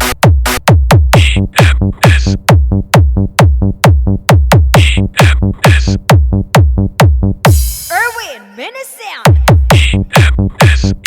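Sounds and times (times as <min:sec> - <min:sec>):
booming kick drum: 0:00.0 - 0:08.0, 0:09.2 - 0:11.0
electronic dance music: 0:00.0 - 0:11.0.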